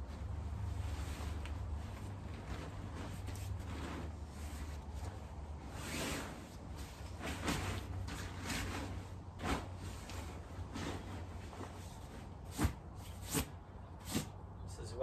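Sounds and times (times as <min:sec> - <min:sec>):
fabric and plastic rustling: 0:00.0 - 0:14.4.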